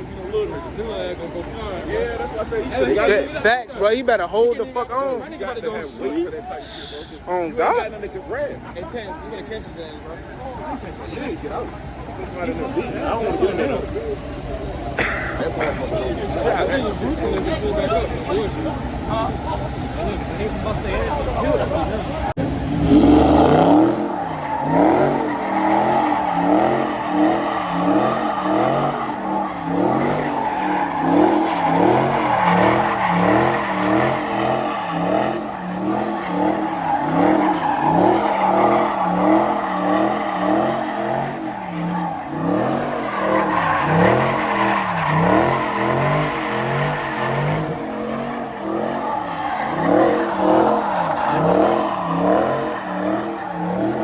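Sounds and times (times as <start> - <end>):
car engine revving: 0.0 - 54.0
tires squealing: 0.0 - 54.0.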